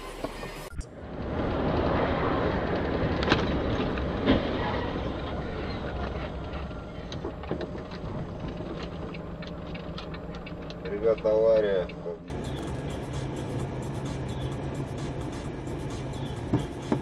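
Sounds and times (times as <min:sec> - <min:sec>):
vehicle driving on wet road: 0:00.1 - 0:17.0.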